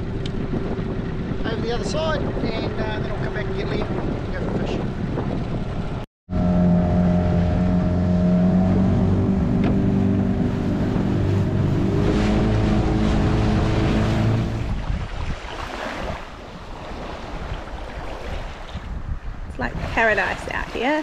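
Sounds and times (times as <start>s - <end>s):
outboard motor running: 0.0s - 18.3s
water noise: 0.0s - 21.0s
wind: 0.0s - 21.0s.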